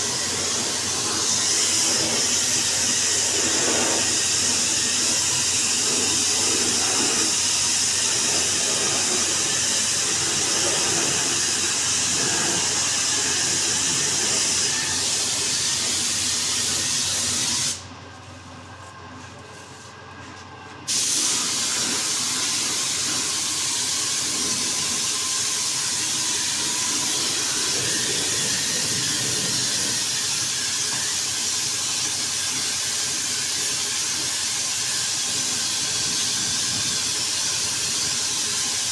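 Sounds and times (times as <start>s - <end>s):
paint spray gun hissing: 0.0s - 17.9s, 20.8s - 38.9s.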